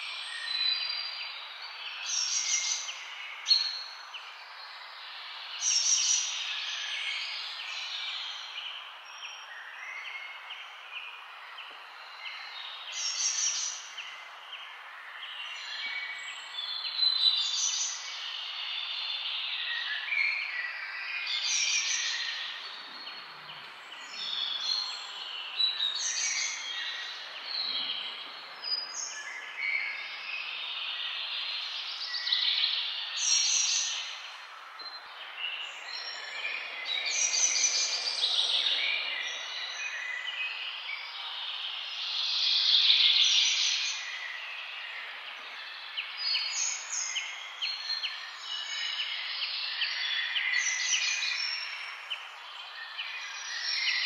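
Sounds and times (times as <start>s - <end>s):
birds chirping chorus: 0.0s - 54.0s.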